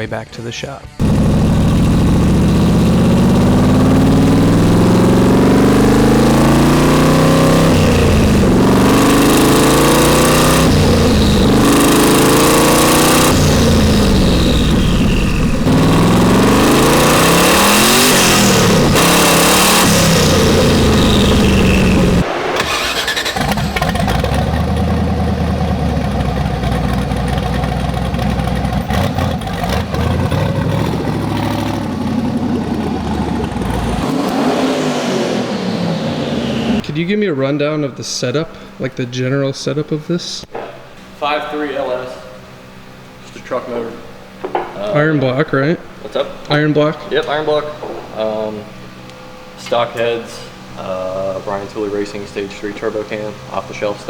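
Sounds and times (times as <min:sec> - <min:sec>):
car engine accelerating: 0:01.0 - 0:37.2, 0:46.7 - 0:54.0.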